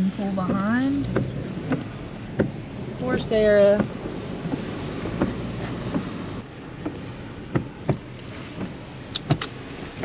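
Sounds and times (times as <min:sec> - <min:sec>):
water washing around vehicle: 0:00.0 - 0:10.0.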